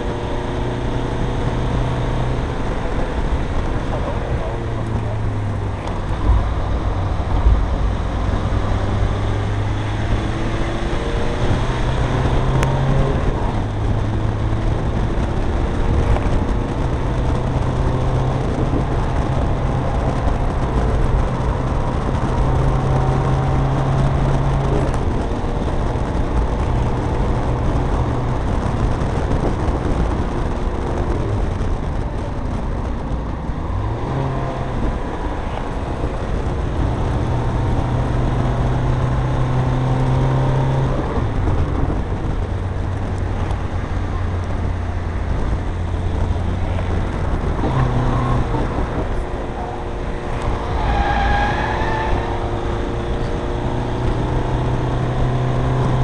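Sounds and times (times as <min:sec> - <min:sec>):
diesel engine pulling hard: 0:00.0 - 0:56.0
road noise: 0:00.0 - 0:56.0.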